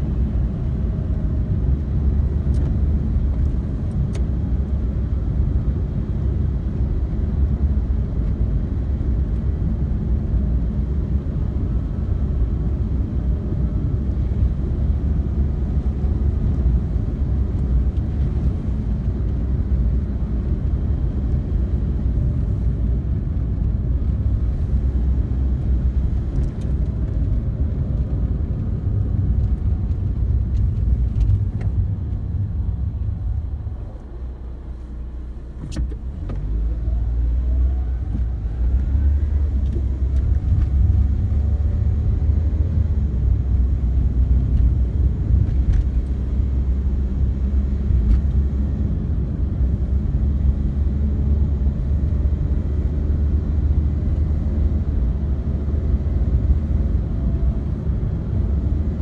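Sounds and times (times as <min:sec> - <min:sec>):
car engine: 0:00.0 - 0:59.0
road rumble: 0:00.0 - 0:59.0.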